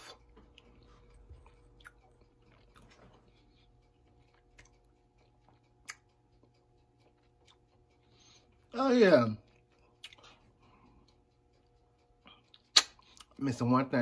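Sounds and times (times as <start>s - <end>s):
mouth chewing with clicks: 0.0s - 8.8s, 9.4s - 13.4s.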